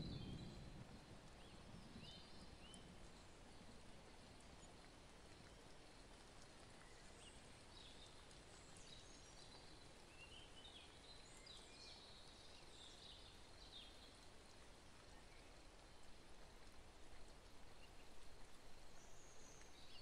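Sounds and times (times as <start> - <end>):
faint birdsong: 0.0 - 20.0
outdoor background hiss: 0.0 - 20.0.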